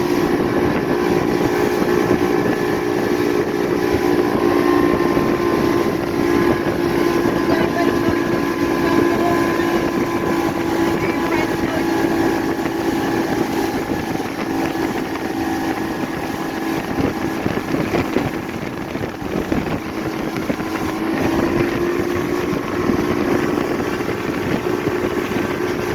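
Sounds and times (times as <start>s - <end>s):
motorboat engine running: 0.0s - 25.9s
water rushing: 0.0s - 25.9s
wind buffeting microphone: 0.0s - 25.9s.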